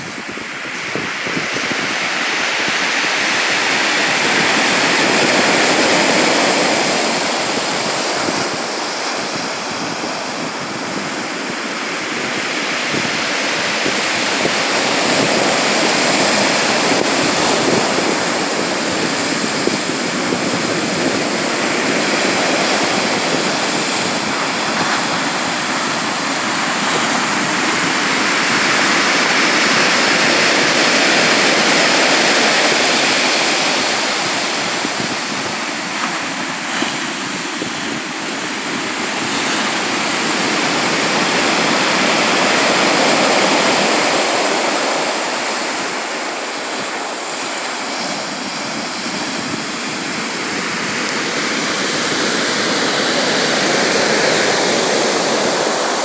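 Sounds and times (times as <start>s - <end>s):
waves washing in: 0.0s - 56.0s.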